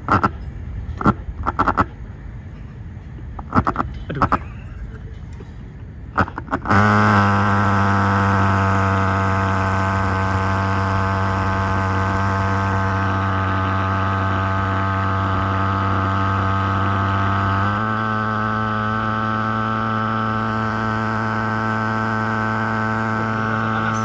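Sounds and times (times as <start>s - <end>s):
fogging machine droning: 0.0s - 24.0s.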